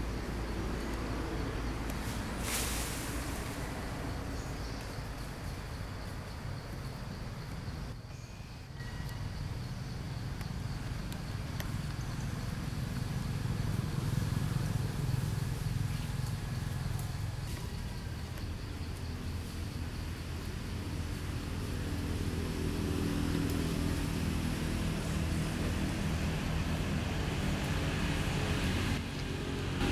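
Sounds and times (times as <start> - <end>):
faint insect drone: 0.0 - 29.9
vehicle engine rumble: 0.0 - 29.9.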